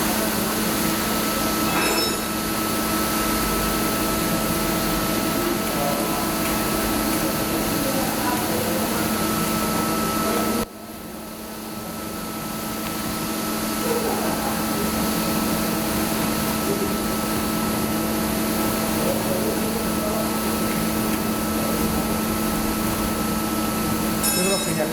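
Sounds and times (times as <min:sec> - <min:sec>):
industrial vacuum cleaner running: 0:00.0 - 0:24.9.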